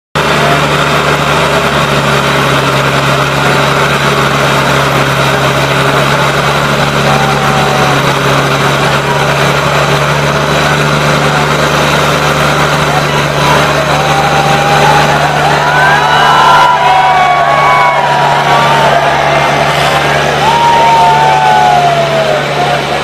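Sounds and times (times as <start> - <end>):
tractor diesel engines running hard: 0.2 - 23.0.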